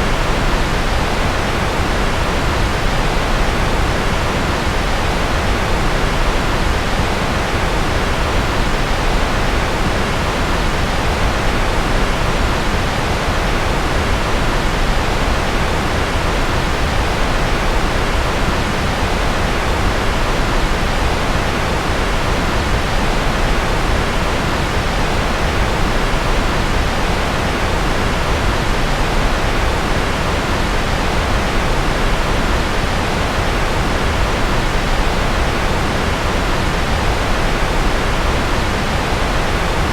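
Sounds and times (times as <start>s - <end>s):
rushing white noise hiss: 0.0s - 39.9s.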